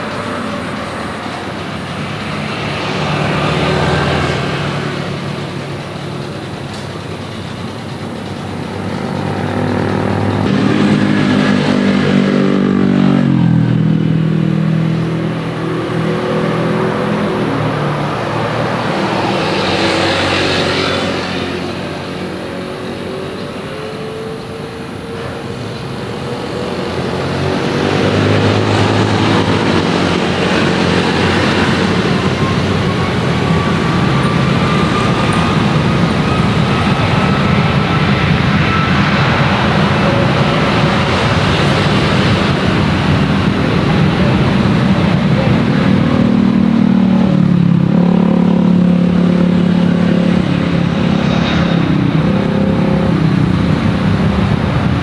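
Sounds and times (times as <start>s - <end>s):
passing vehicle engines: 0.0s - 55.0s.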